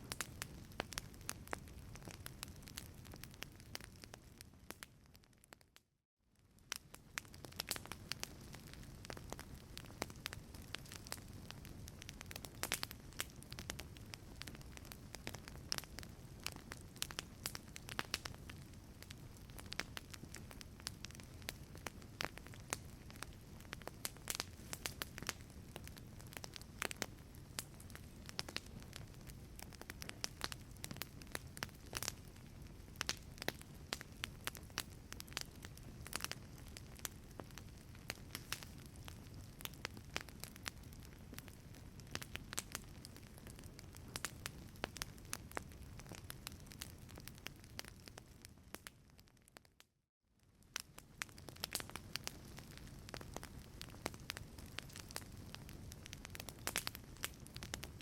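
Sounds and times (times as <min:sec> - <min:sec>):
burning logs popping: 0:00.0 - 0:05.6, 0:06.4 - 0:49.6, 0:50.4 - 0:58.0
wood fire crackling: 0:00.0 - 0:05.8, 0:06.4 - 0:49.6, 0:50.4 - 0:58.0.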